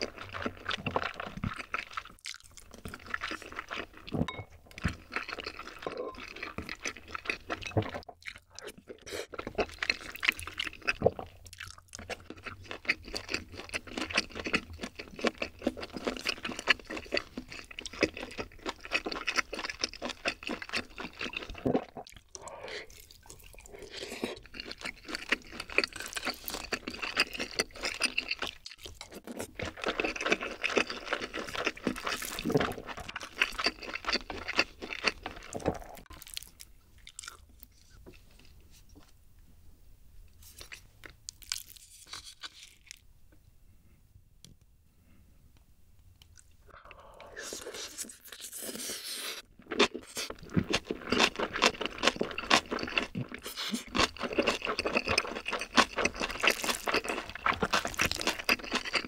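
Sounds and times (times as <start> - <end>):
person chewing food: 0.0 - 39.2, 40.4 - 43.1, 46.2 - 59.0.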